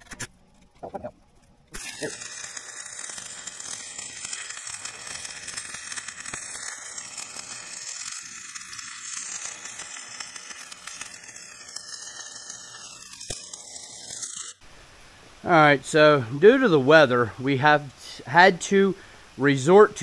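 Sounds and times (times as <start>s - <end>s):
welding arc sizzling and crackling: 0.0s - 17.1s.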